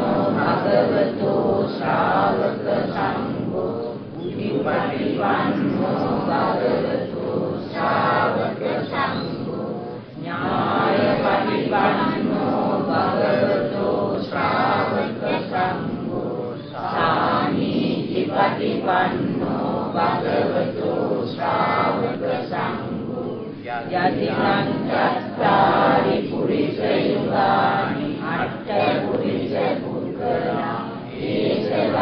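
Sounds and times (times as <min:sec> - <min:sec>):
voices chanting in unison: 0:00.0 - 0:32.0.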